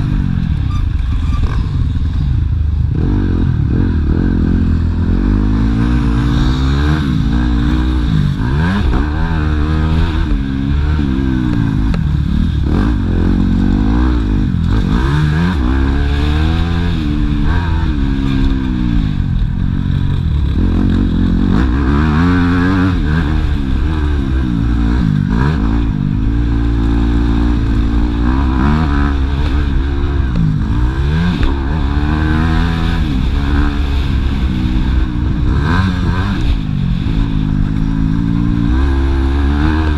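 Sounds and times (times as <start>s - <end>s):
constant deep rumble: 0.0s - 39.9s
motocross bike engine revving: 0.0s - 39.9s.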